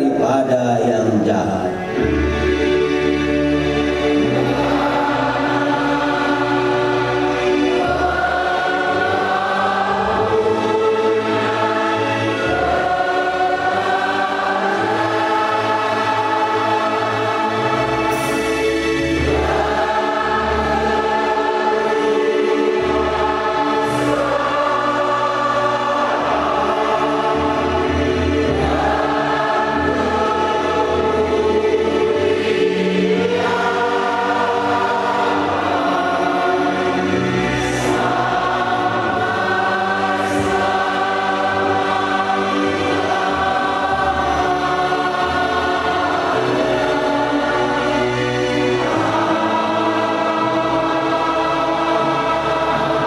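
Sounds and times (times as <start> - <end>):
congregation singing a hymn: 0.0 - 53.0.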